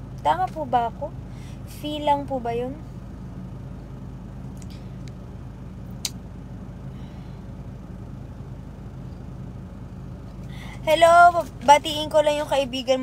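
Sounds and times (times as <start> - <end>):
low hum inside a car: 0.0 - 13.0.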